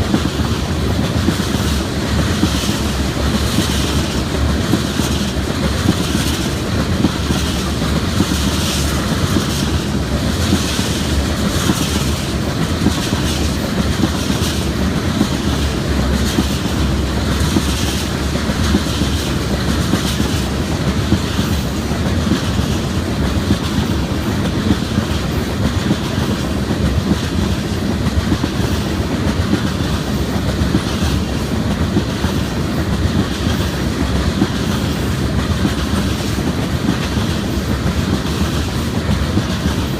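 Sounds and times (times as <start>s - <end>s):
train wheels rumbling on rail: 0.0s - 39.9s
wheels clacking over rail joints: 0.0s - 39.9s.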